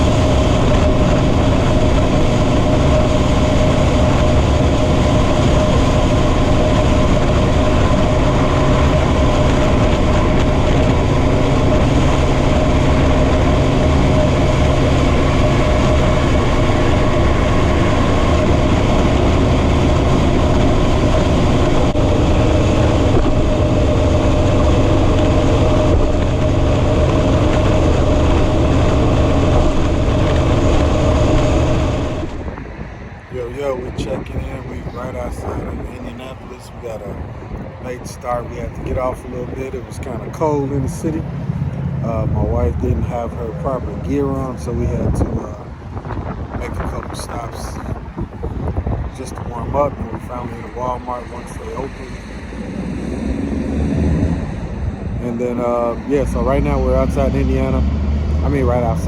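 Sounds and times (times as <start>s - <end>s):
motorcycle engine drone: 0.0s - 59.0s
wind and road noise: 0.0s - 59.0s.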